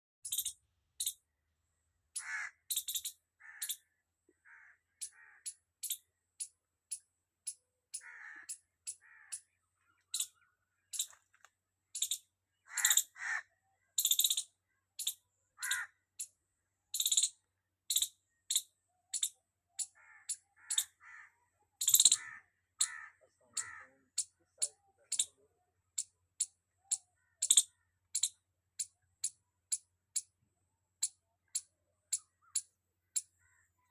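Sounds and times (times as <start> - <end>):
squirrel chirping: 0.2 - 1.2, 2.2 - 3.9, 5.0 - 11.2, 11.9 - 13.2, 13.9 - 23.0, 23.6 - 30.4, 31.0 - 33.9.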